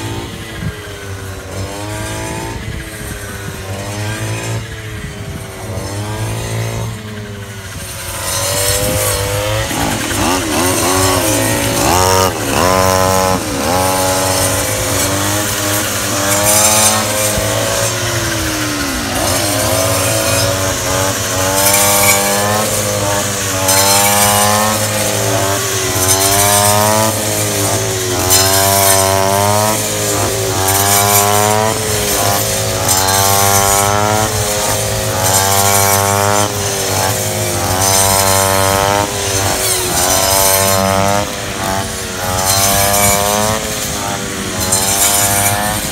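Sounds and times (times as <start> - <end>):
brush cutter engines revving: 0.0 - 45.9.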